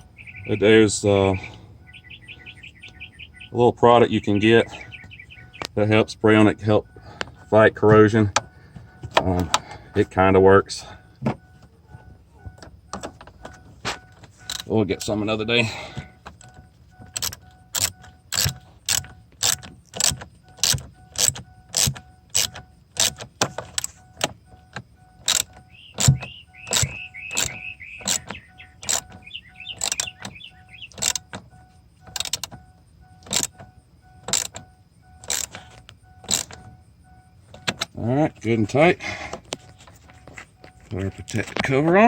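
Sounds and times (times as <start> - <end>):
squeaky scraping: 0.0 - 42.0.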